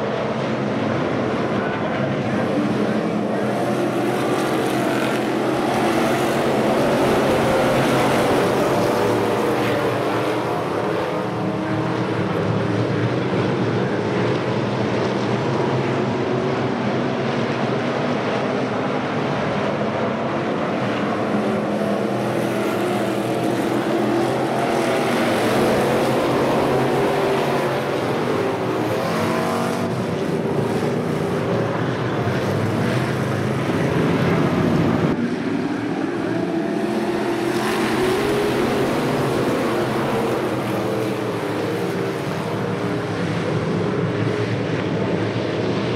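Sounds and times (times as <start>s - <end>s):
race car engines passing: 0.0s - 45.9s.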